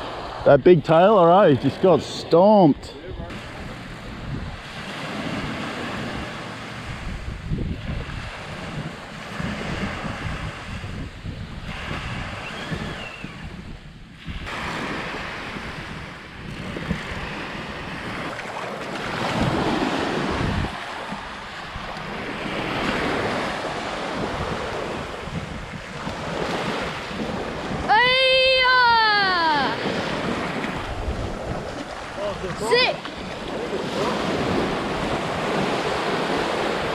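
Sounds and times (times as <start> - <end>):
surf breaking on beach: 0.0 - 36.9
wind buffeting microphone: 0.0 - 36.9.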